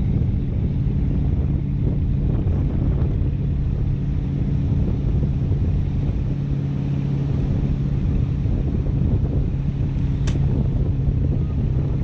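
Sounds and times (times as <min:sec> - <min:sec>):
constant low hum: 0:00.0 - 0:12.0
wind buffeting microphone: 0:00.0 - 0:12.0.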